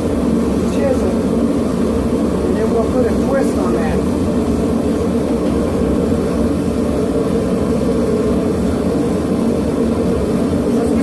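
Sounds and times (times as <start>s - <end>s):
forge burner rushing: 0.0s - 11.0s.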